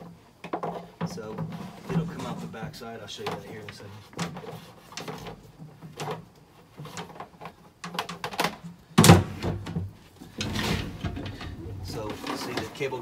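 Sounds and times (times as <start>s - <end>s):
plastic scraping: 0.0s - 13.0s.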